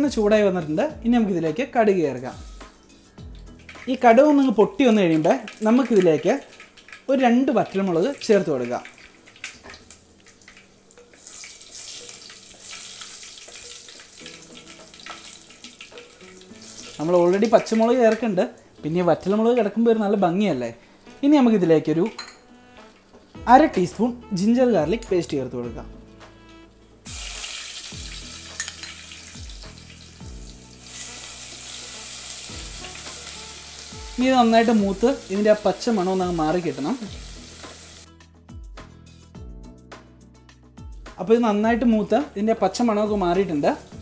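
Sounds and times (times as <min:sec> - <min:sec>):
spices sizzling in hot oil: 0:02.2 - 0:25.0, 0:26.0 - 0:38.1, 0:41.4 - 0:44.0.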